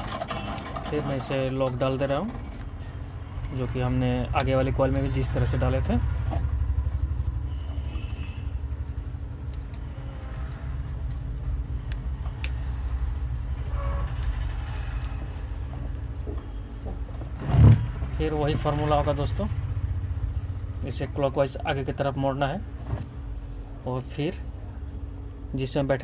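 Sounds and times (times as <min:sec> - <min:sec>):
low rumble: 0:02.5 - 0:25.2.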